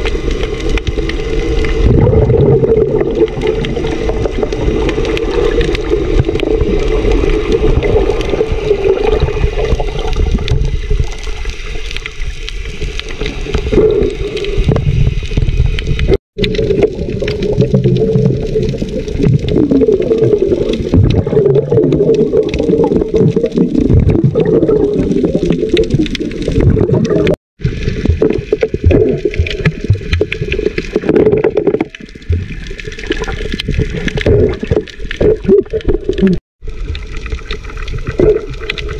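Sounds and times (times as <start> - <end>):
churning water underwater: 0.0 - 38.9.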